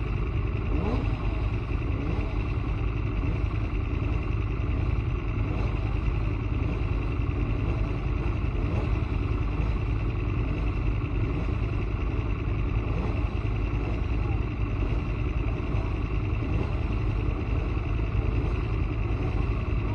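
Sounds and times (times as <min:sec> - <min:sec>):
heavy low rumble: 0:00.0 - 0:19.9
motorcycle engine running: 0:00.0 - 0:19.9.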